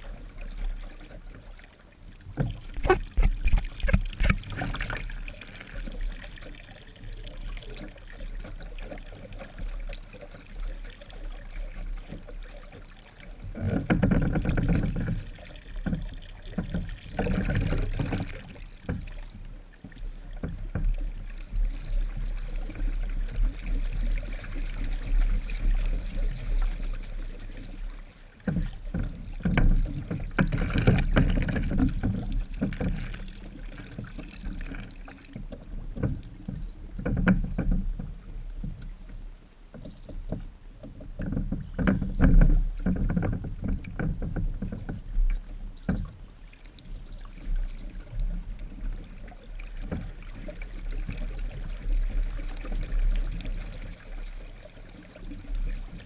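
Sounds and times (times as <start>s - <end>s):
paddle wheel splashing water: 0.0s - 56.0s.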